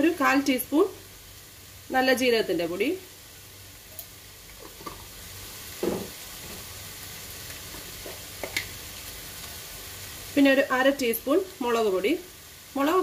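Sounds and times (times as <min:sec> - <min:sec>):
vegetables frying in oil: 0:00.0 - 0:13.0.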